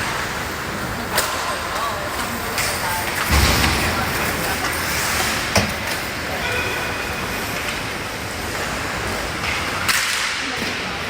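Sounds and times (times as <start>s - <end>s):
hockey rink noise: 0.0s - 11.0s.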